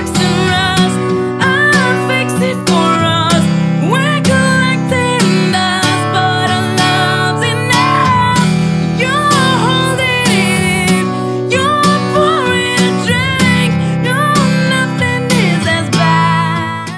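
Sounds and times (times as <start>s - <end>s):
strummed acoustic guitar: 0.0s - 16.9s.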